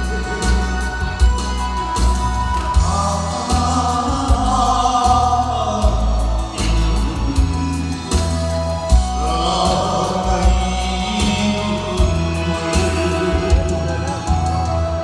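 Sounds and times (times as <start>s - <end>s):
backing track with bass beat: 0.0s - 15.0s
man singing into a microphone: 2.7s - 15.0s.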